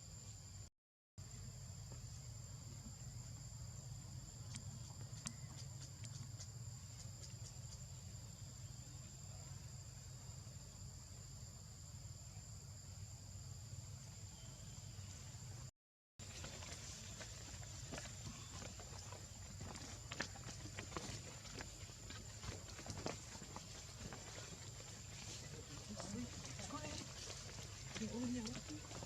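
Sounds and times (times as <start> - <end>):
insects chirping in forest: 0.0 - 29.0.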